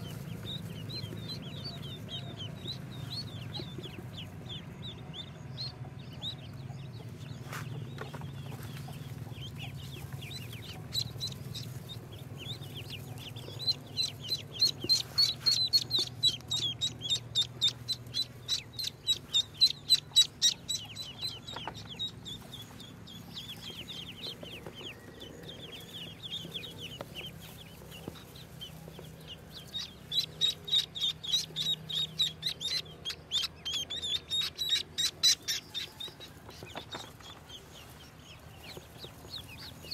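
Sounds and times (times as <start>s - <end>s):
ducklings peeping: 0.0s - 39.9s
low steady hum: 0.0s - 39.9s.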